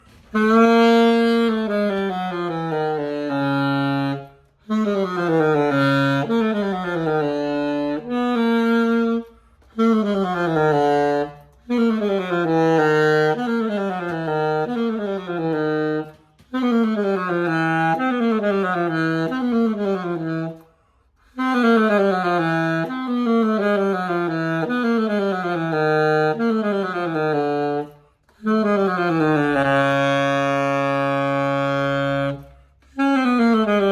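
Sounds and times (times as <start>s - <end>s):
solo saxophone runs: 0.0s - 33.9s.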